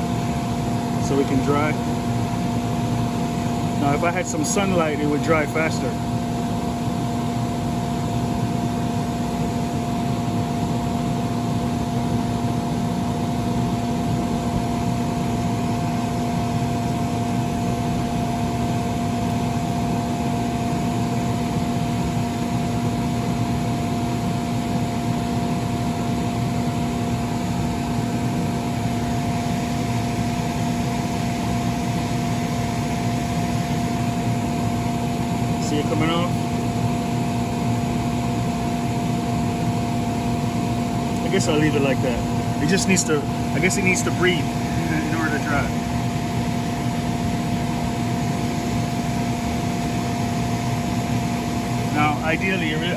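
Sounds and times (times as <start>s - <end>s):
inflation blower humming: 0.0s - 52.9s.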